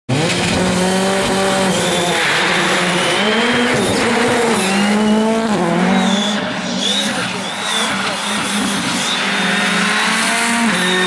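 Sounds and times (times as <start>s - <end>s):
rally car engine at high revs: 0.1s - 11.0s.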